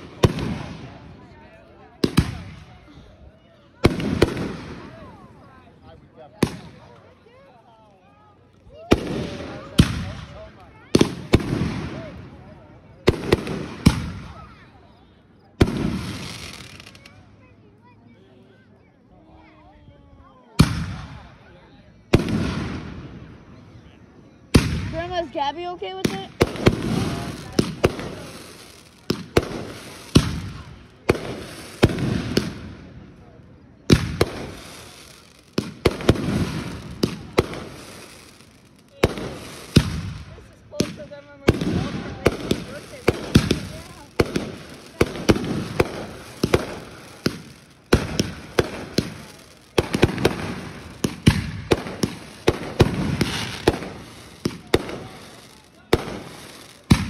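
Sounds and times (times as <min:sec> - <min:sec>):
fireworks bangs: 0:00.0 - 0:02.8, 0:03.7 - 0:05.6, 0:06.2 - 0:07.4, 0:08.7 - 0:17.3, 0:20.6 - 0:21.4, 0:22.1 - 0:23.6, 0:24.5 - 0:57.0.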